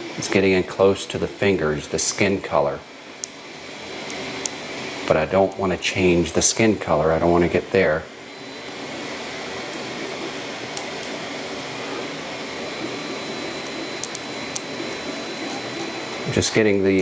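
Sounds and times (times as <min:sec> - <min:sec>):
whir of fans and motors: 0:00.0 - 0:17.0.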